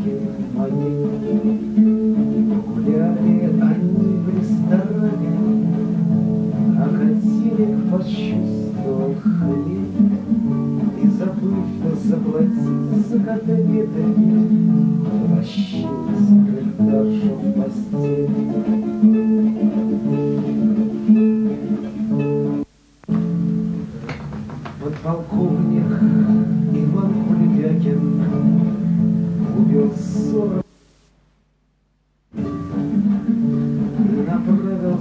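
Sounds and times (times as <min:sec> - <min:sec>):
acoustic guitar strumming: 0:00.0 - 0:30.7, 0:32.3 - 0:35.0.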